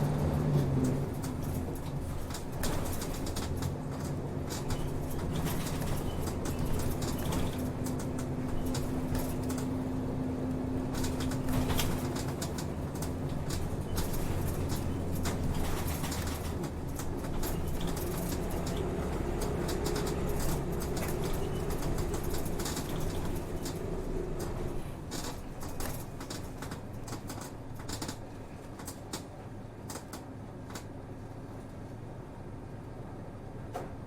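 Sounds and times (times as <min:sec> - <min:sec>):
bus cabin rattling and clicking: 0:00.0 - 0:34.0
diesel bus engine droning: 0:00.0 - 0:34.0.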